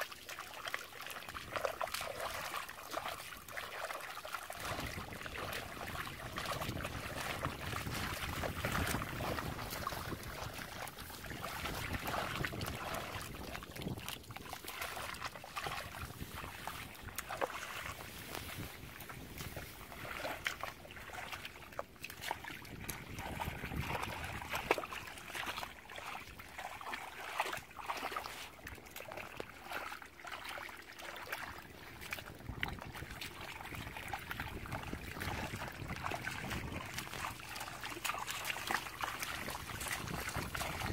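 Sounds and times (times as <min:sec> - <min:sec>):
mud squelching: 0:00.0 - 0:40.9
muddy water sloshing: 0:00.0 - 0:40.9
small splashes and clicks: 0:00.0 - 0:40.9.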